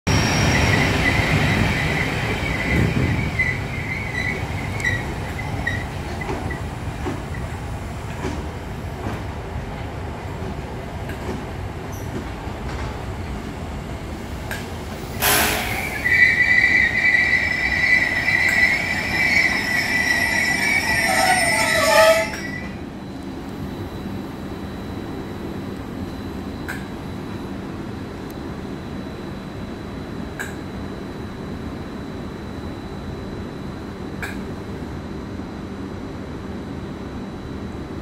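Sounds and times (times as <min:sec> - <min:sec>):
train wheels rumbling and squealing: 0:00.1 - 0:34.8.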